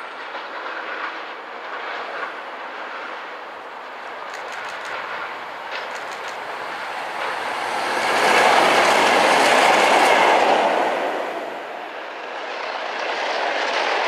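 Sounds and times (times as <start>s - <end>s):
locomotive passing at speed: 0.0s - 14.0s.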